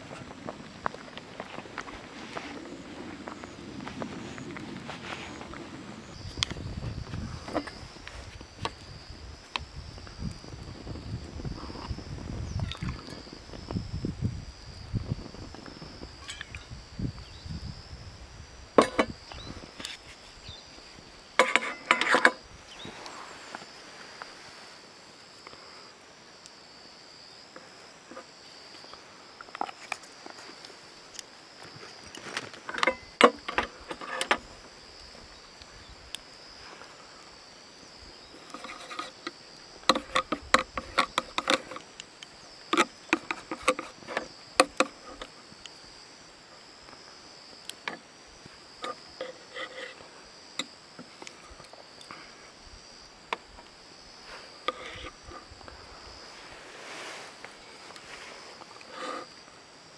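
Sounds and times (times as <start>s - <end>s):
high insect chirring: 5.1s - 23.8s, 28.1s - 59.9s.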